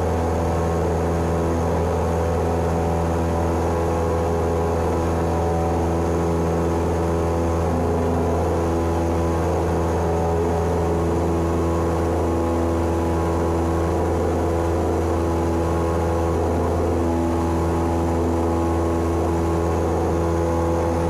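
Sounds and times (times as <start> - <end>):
airplane engine and propeller droning: 0.0 - 21.0.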